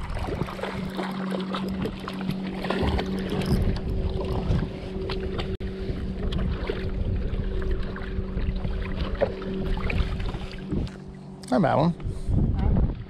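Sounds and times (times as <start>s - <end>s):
wind on microphone: 0.0s - 11.0s, 12.0s - 13.0s
steady low hum: 0.0s - 13.0s
water splashing against boat: 0.0s - 13.0s.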